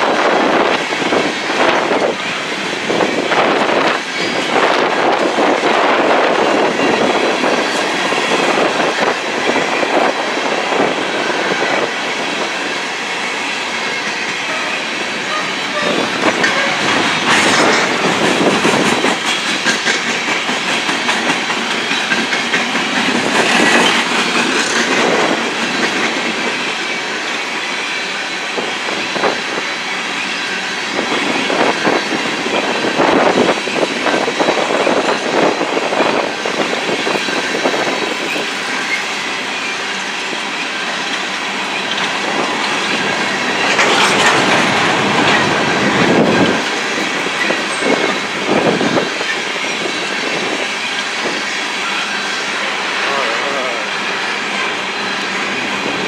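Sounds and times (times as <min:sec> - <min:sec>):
clickety-clack over rail joints: 0:00.0 - 0:53.0
train wheels rumbling on rails: 0:00.0 - 0:56.0.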